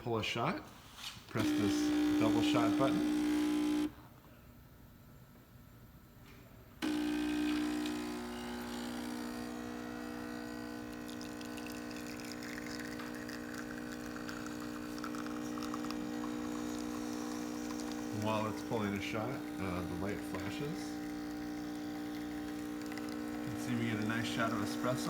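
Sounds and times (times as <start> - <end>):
espresso machine pump humming: 1.3 - 4.0, 6.8 - 25.0
espresso flowing into cup: 1.4 - 3.9, 6.8 - 25.0.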